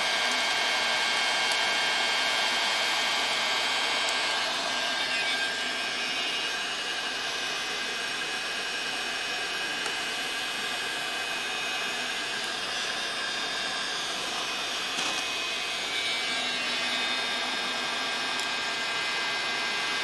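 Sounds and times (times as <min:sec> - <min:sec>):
fan motor whine: 0:00.0 - 0:20.0
heat gun blowing air: 0:00.0 - 0:20.0.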